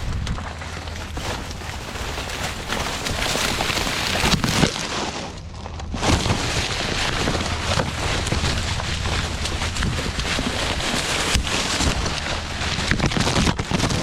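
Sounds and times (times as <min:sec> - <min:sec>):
rustling through dry brush: 0:00.0 - 0:14.0
wind noise on microphone: 0:00.0 - 0:14.0.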